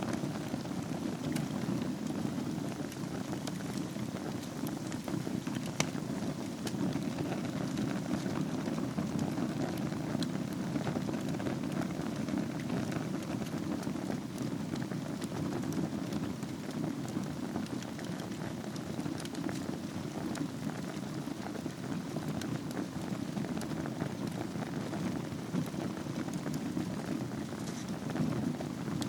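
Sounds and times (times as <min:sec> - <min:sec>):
wood fire burning: 0:00.0 - 0:29.0.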